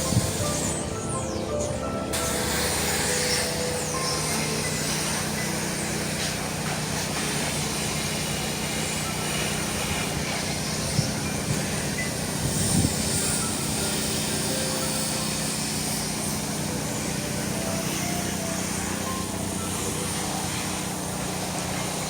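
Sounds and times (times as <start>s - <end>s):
even hiss: 0.0s - 22.0s.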